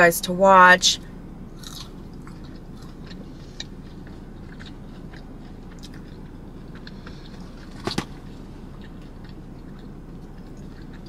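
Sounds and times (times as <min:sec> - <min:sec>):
steady low hum: 0:00.0 - 0:11.0
person chewing food: 0:01.6 - 0:11.0.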